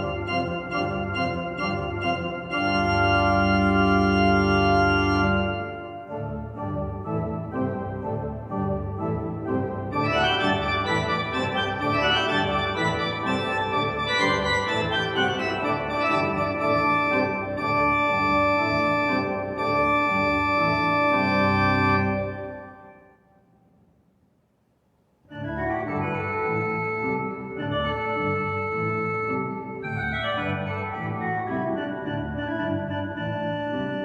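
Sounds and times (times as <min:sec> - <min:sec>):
pipe organ playing chords: 0:00.0 - 0:23.0, 0:25.3 - 0:34.0.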